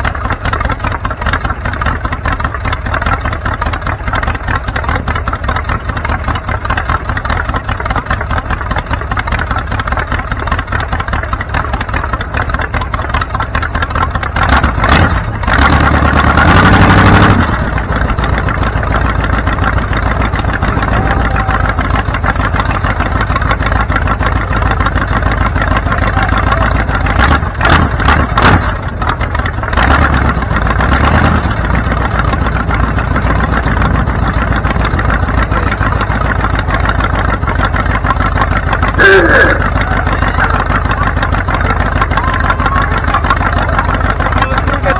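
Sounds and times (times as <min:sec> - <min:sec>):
car engine revving: 0:00.0 - 0:44.9
car engine running: 0:00.0 - 0:44.9.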